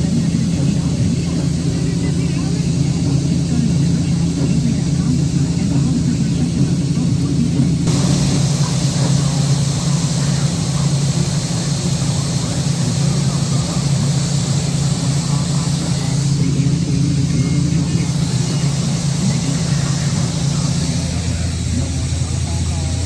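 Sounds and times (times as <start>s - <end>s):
combine harvester droning: 0.0s - 23.0s.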